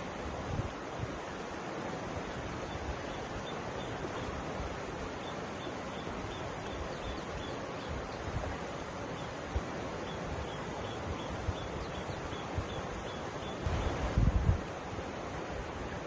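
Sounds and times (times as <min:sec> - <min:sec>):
river flowing over rocks: 0:00.0 - 0:16.0.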